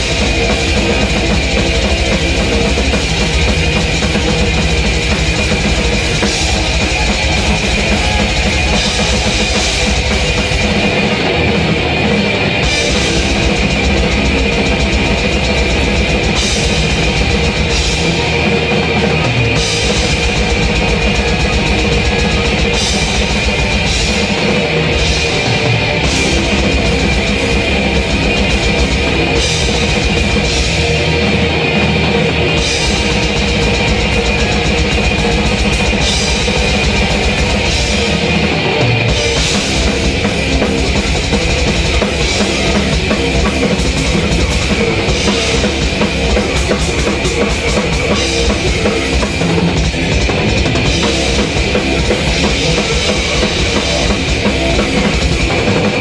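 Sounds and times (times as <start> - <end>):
fast heavy metal drumming: 0.0 - 56.0.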